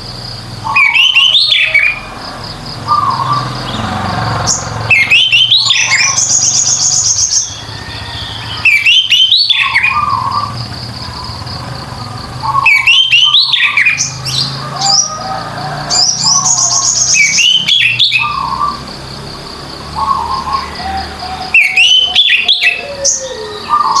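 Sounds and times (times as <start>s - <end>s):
thrush singing whistles and trills: 0.0s - 24.0s.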